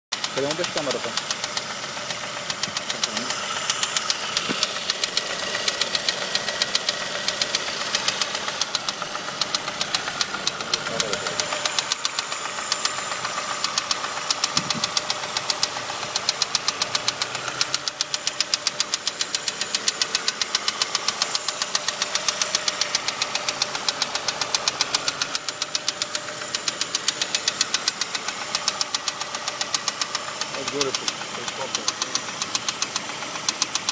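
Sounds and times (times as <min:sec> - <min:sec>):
engine running with rhythmic knocking: 0:00.1 - 0:33.9.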